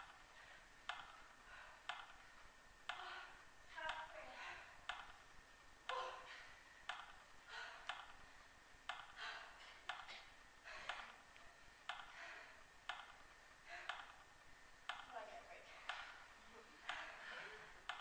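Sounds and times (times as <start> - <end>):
steady ticking: 0.0 - 18.0.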